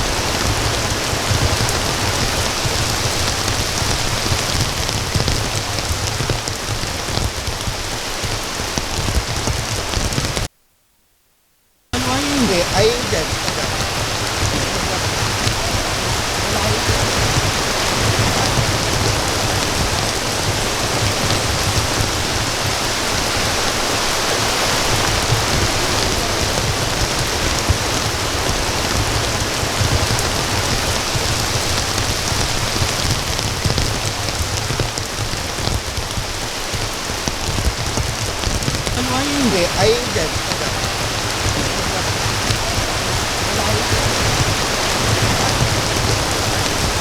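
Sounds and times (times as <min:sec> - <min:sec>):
heavy rain: 0:00.0 - 0:10.5, 0:12.0 - 0:47.0.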